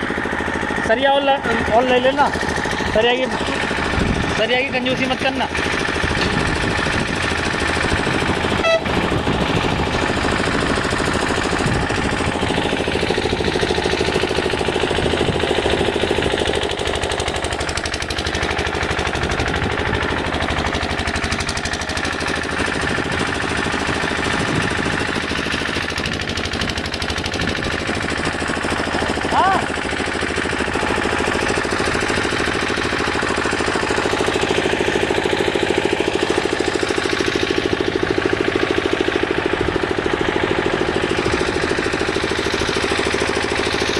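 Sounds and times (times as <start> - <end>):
machine engine rattling: 0.0 - 43.9.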